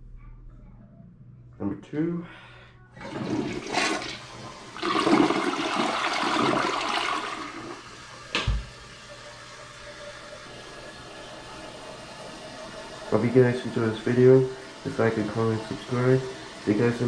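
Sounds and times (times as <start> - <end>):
toilet flushing water rush: 3.0 - 17.0
toilet refilling hiss: 3.0 - 17.0.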